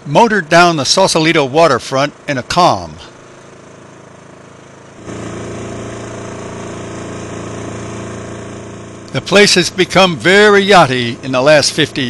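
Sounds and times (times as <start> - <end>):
small outboard motor running: 0.0 - 12.0.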